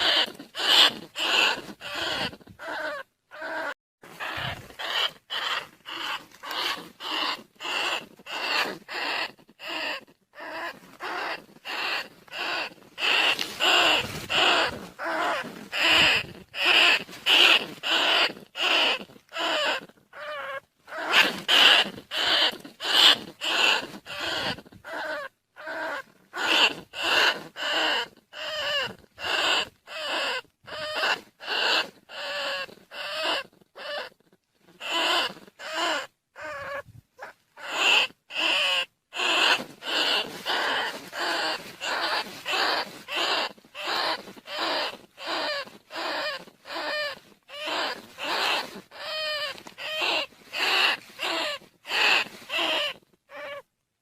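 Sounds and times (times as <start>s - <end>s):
rats squeaking: 0.0s - 53.7s.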